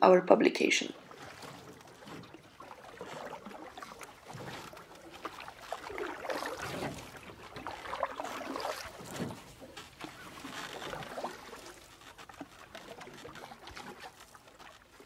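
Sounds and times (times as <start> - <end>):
water splashing and trickling: 0.4 - 15.0.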